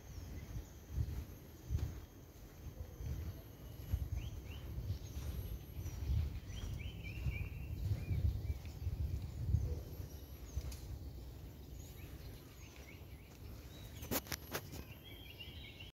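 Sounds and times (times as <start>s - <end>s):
birds whistling: 0.0s - 15.9s.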